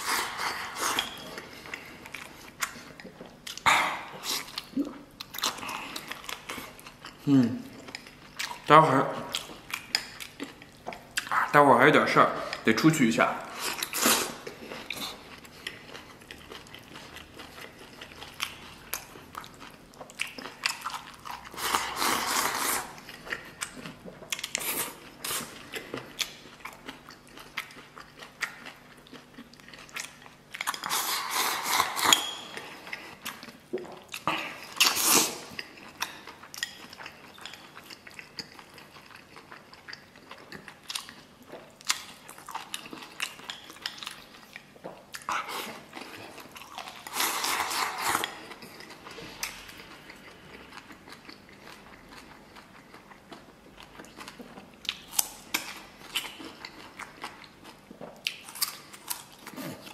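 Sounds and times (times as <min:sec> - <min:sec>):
wet chewing and lip-smacking: 0:00.0 - 0:11.6, 0:13.4 - 0:59.9.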